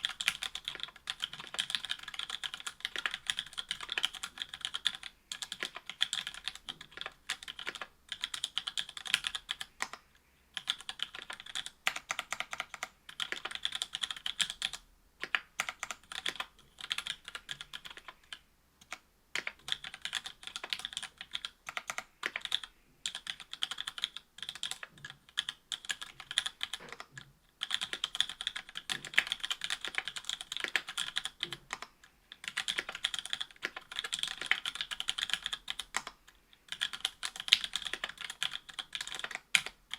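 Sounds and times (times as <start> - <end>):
mechanical keyboard typing: 0.0 - 10.0, 10.6 - 39.9.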